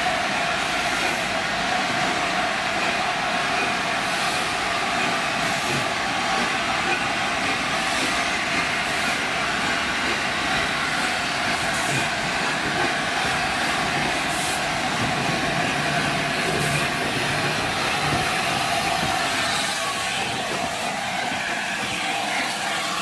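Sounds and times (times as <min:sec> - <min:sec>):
steam train rolling past: 0:00.0 - 0:23.0.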